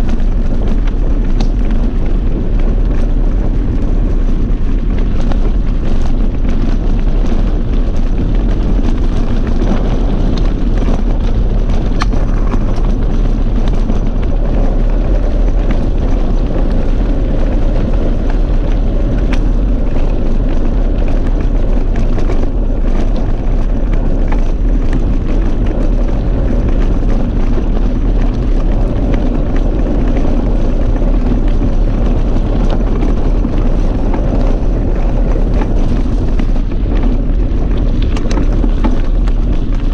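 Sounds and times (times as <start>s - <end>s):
bike knocks and rattles: 0.0s - 39.9s
bike rolling over dirt and gravel: 0.0s - 39.9s
heavy wind rumble on microphone: 0.0s - 39.9s.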